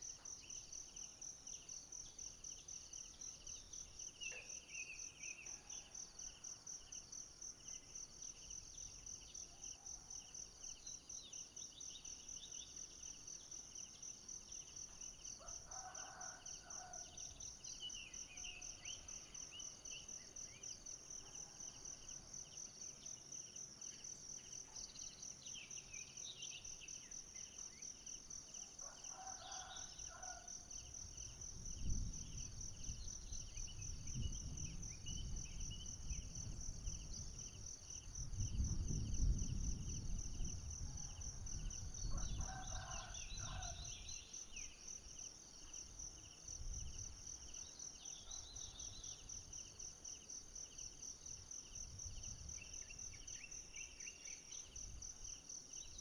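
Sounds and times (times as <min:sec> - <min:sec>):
insects trilling chorus: 0:00.0 - 0:56.0.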